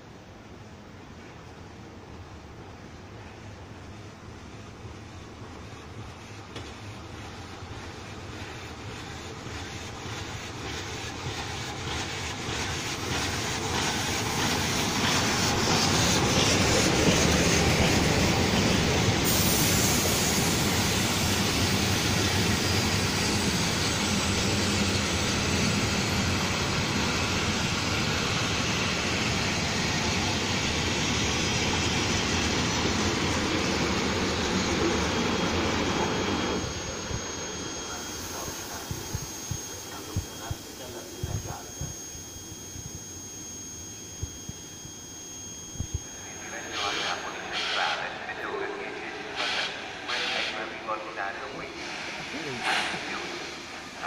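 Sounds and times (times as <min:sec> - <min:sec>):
train rumbling on rails: 0:00.0 - 0:43.3, 0:45.8 - 0:54.0.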